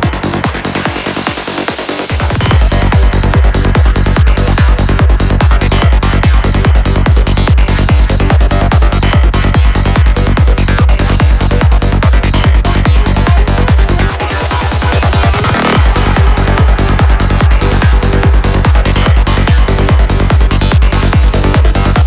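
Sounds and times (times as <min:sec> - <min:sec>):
psytrance track: 0:00.0 - 0:22.0.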